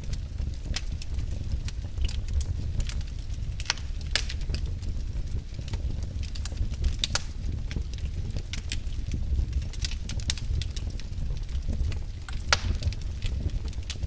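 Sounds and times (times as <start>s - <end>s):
fire pops and snaps: 0.0s - 14.0s
wood fire crackling: 0.0s - 14.0s.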